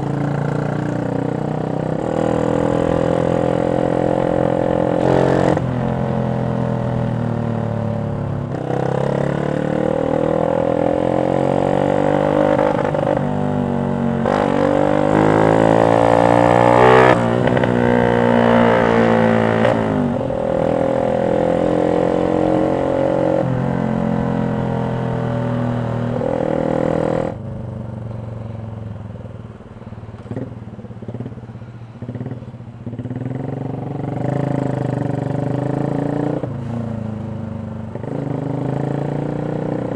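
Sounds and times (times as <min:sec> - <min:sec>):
motorcycle engine revving: 0:00.0 - 0:28.4, 0:30.2 - 0:39.9.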